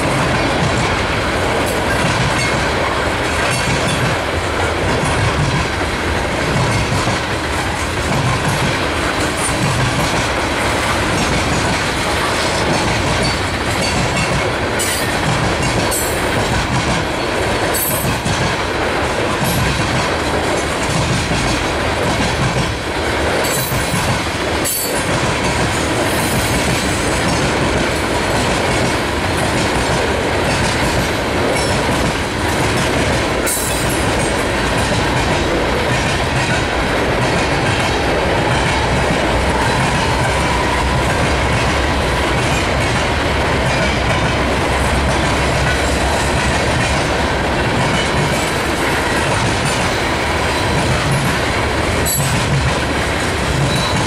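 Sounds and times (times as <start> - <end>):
freight train rumbling past: 0.0 - 54.0
wheels clacking over rail joints: 0.0 - 54.0.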